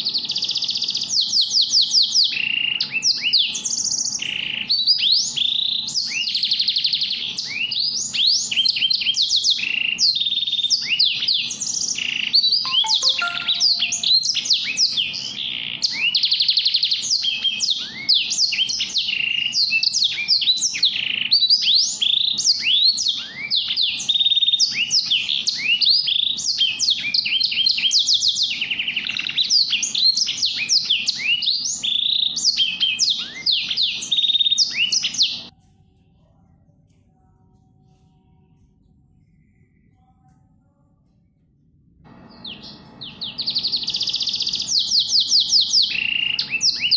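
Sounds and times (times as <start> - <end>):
finch singing chirps and trills: 0.0 - 35.5, 42.3 - 46.9.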